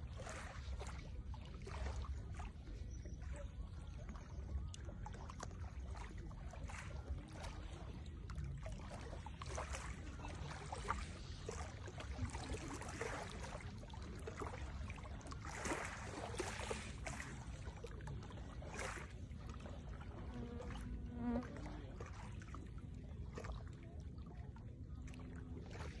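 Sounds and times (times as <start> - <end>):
lake water lapping: 0.0 - 26.0
small splashes: 0.0 - 26.0.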